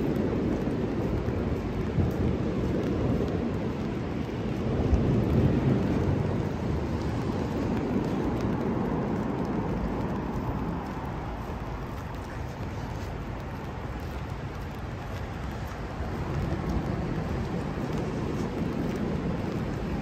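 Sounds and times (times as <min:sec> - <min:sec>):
rain falling on street: 0:00.0 - 0:20.0.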